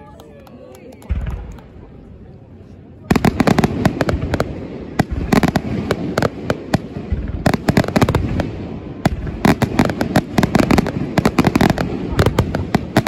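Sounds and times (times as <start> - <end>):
rolling rumble of echoes: 0.0 - 13.0.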